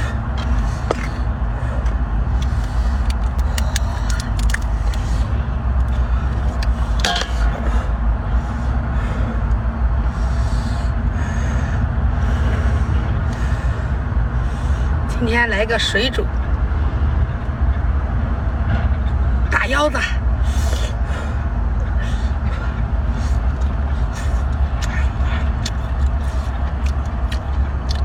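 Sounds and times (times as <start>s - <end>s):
boat engine rumbling: 0.0s - 28.0s.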